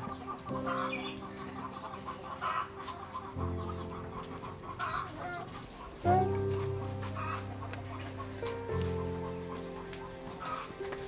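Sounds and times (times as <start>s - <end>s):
chickens clucking: 0.0s - 11.0s
soft music of sustained chords: 0.0s - 11.0s.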